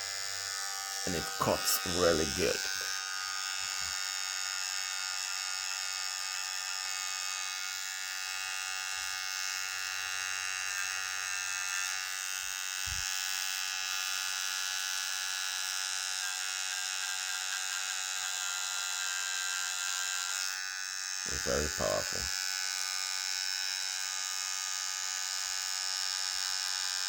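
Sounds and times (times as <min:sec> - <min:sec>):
hair trimmer buzzing: 0:00.0 - 0:27.0.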